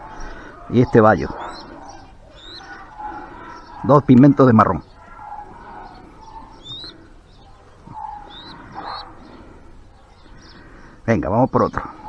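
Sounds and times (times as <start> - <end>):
pigeon cooing: 0.0 - 11.0.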